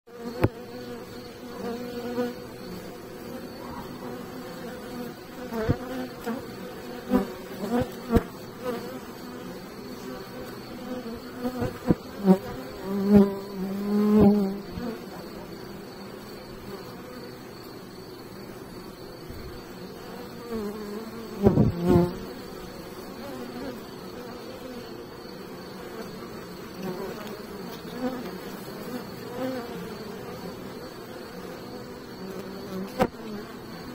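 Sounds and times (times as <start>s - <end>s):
bee colony humming: 0.1s - 33.9s
bees buzzing close by: 0.1s - 33.9s.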